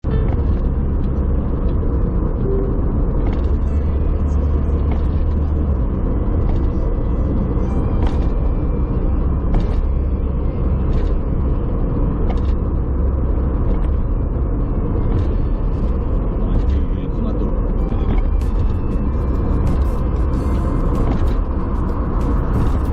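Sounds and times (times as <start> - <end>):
van road and engine rumble: 0.0 - 22.9.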